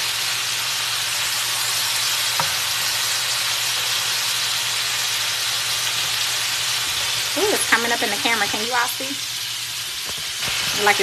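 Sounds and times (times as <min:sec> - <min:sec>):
pork sizzling in a wok: 0:00.0 - 0:11.0.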